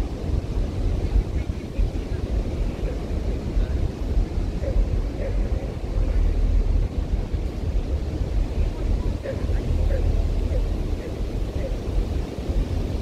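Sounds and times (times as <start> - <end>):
ocean surf rushing on a beach: 0.0 - 13.0
wind buffeting the microphone: 0.0 - 13.0.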